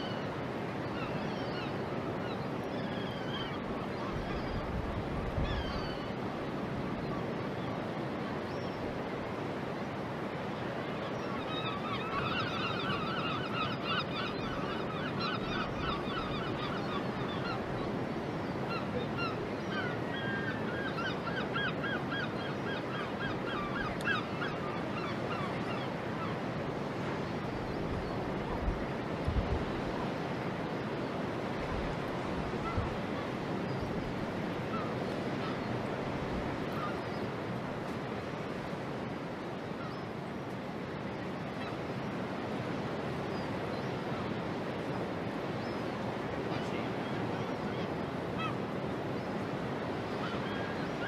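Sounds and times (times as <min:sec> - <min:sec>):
gulls calling: 0:00.0 - 0:06.4, 0:10.5 - 0:40.2, 0:41.0 - 0:51.0
harbour background noise: 0:00.0 - 0:51.0.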